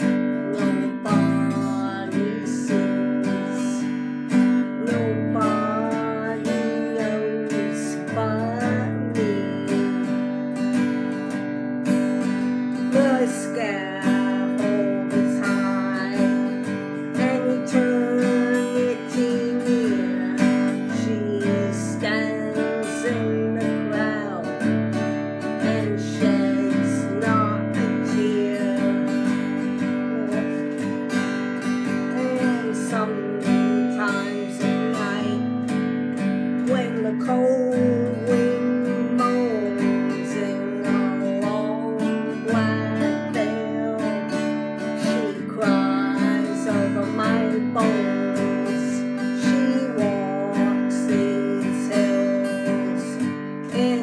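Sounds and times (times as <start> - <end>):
acoustic guitar strumming chords: 0.0 - 54.0
person singing folk ballad: 0.0 - 54.0.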